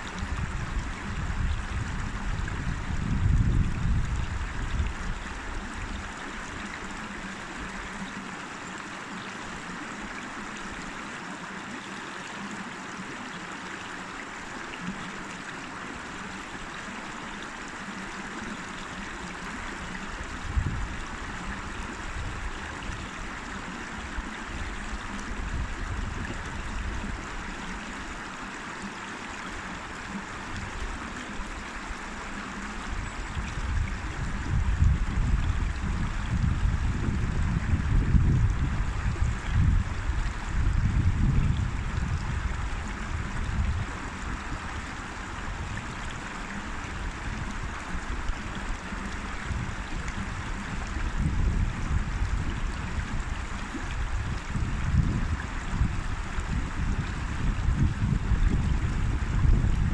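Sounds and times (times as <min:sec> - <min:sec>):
river water rushing: 0:00.0 - 0:36.8, 0:37.4 - 0:59.6.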